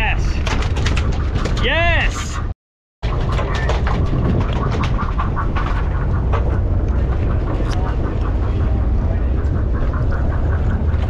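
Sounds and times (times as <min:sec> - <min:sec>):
boat noise: 0:00.0 - 0:11.0
low rumble of wind: 0:00.0 - 0:11.0.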